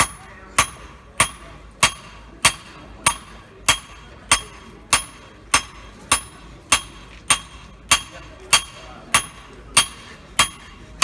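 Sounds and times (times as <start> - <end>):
hammer striking metal on anvil: 0.0 - 11.0.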